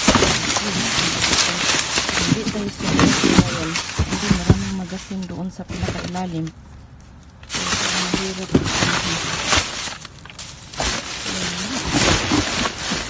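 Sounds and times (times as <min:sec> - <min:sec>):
cardboard boxes shifting: 0:00.0 - 0:06.5, 0:07.4 - 0:13.0
plastic bags crinkling: 0:00.0 - 0:06.5, 0:07.4 - 0:13.0.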